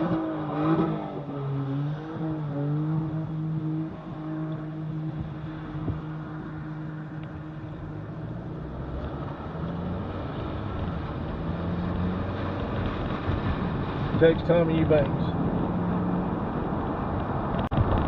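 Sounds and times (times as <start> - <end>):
car engine hum and road noise: 0.0 - 18.0.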